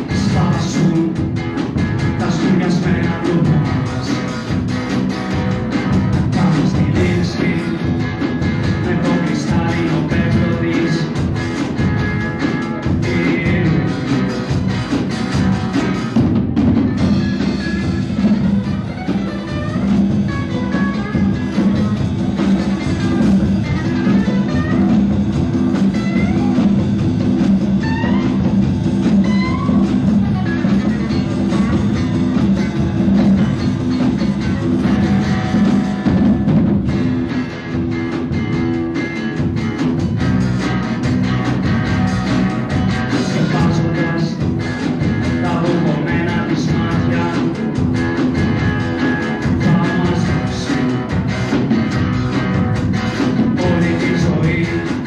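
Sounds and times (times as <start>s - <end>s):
rock band playing: 0.0s - 55.0s
sliding lead guitar notes: 0.0s - 55.0s.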